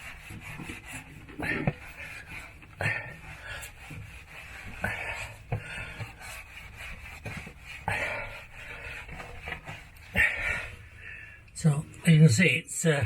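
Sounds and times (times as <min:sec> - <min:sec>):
rasping strokes on metal cylinder: 0:00.0 - 0:11.0.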